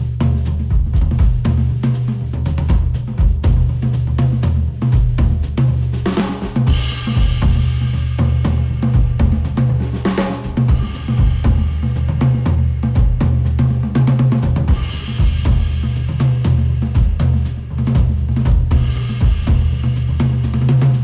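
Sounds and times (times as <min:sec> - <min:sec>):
drum kit: 0:00.0 - 0:21.0
heavy bass: 0:00.0 - 0:21.0.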